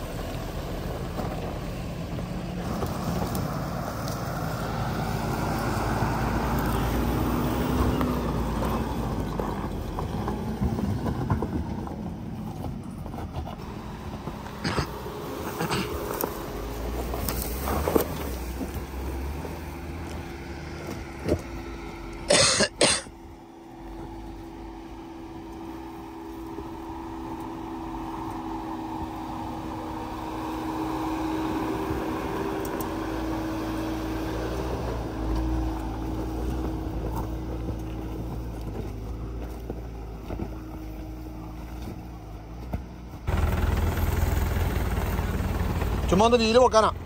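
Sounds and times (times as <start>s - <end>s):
car engine running: 0.0s - 47.0s.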